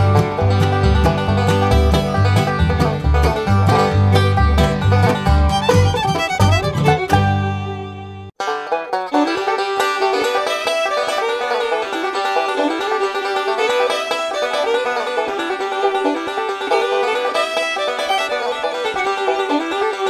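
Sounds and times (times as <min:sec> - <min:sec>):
fast plucked string music: 0:00.0 - 0:20.0.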